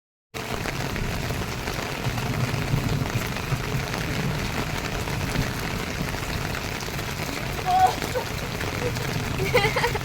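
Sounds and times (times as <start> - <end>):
steady rain falling: 0.4 - 10.0.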